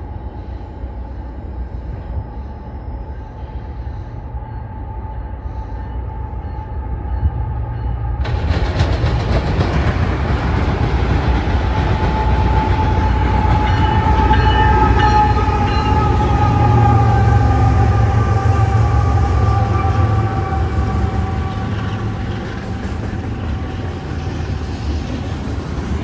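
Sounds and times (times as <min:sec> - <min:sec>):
diesel locomotive engines rumbling: 0:00.0 - 0:26.0
falling locomotive whine: 0:00.0 - 0:26.0.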